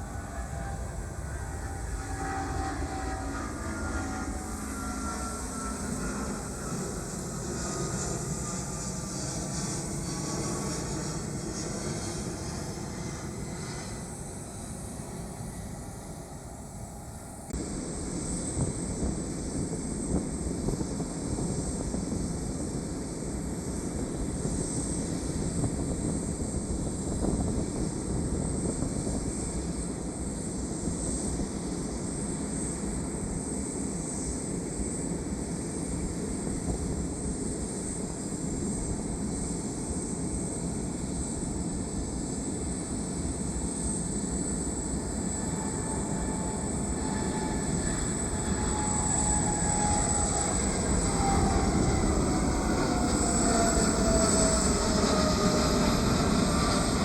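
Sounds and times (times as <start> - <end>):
high engine whine: 0.0 - 57.0
jet engines rumbling: 0.0 - 57.0.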